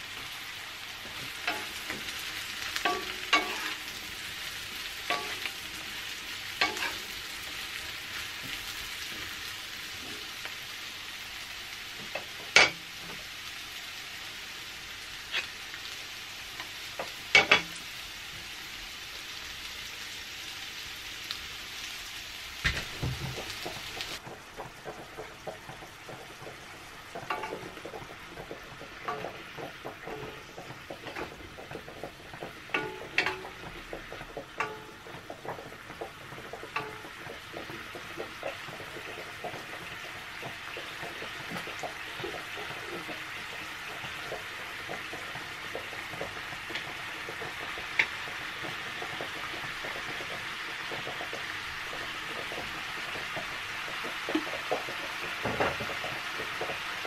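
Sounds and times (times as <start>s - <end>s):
mushrooms sizzling in a frying pan: 0.0s - 57.0s
wooden spatula knocking against pan: 1.0s - 10.6s, 12.0s - 13.3s, 16.6s - 17.8s, 22.6s - 57.0s.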